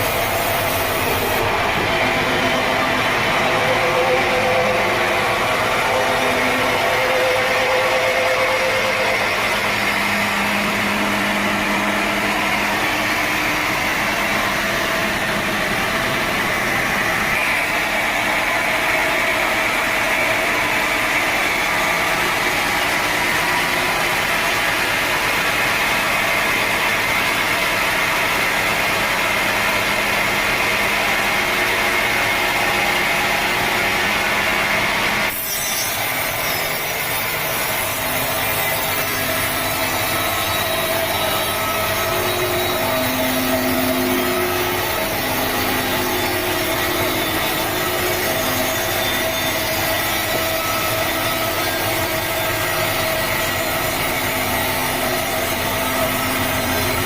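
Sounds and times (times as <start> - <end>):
saw blade noise: 0.0 - 57.0
sawmill motor drone: 0.0 - 57.0.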